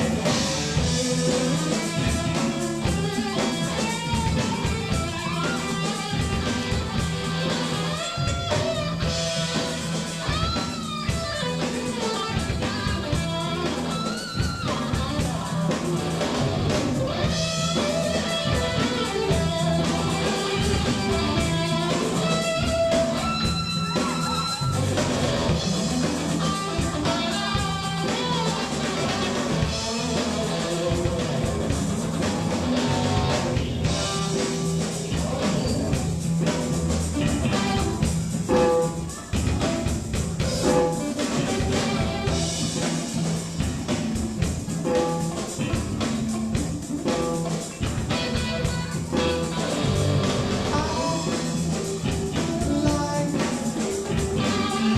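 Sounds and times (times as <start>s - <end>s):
bass line: 0.0s - 54.9s
drum kit: 0.0s - 54.9s
guitar: 0.0s - 54.9s.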